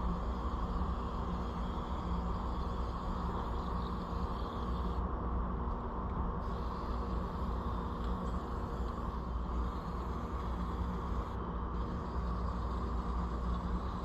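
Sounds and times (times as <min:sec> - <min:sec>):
spray paint hissing: 0:00.0 - 0:05.0, 0:06.4 - 0:14.0
low steady hum: 0:00.0 - 0:14.0.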